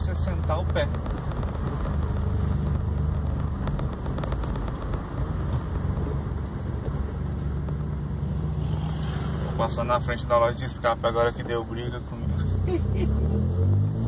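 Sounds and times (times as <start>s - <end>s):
car engine droning: 0.0s - 14.0s
road noise: 0.0s - 14.0s.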